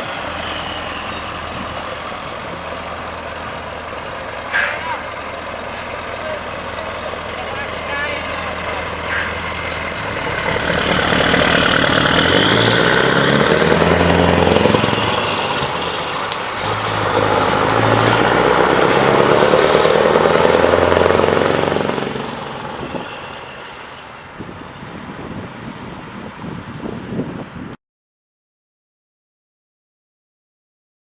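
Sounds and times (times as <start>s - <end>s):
diesel truck accelerating: 0.0s - 27.8s.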